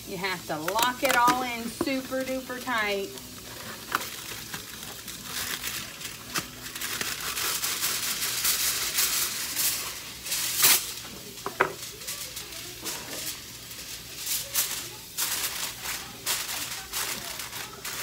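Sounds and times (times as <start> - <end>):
aluminium foil crinkling: 0.2 - 18.0.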